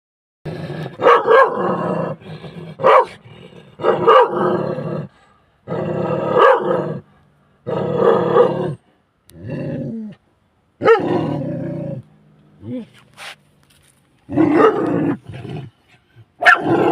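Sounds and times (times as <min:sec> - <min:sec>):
dog barking and growling: 0:00.5 - 0:10.2, 0:10.8 - 0:13.4, 0:14.2 - 0:16.9.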